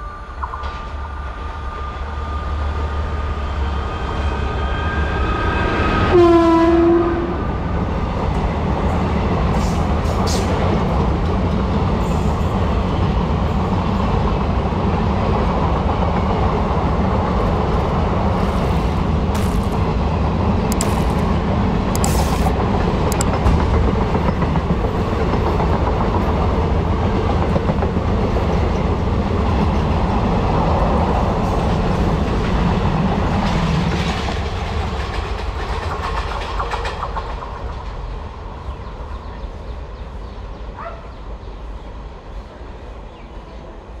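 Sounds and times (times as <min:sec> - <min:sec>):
train coaches rolling past: 0:00.0 - 0:44.0.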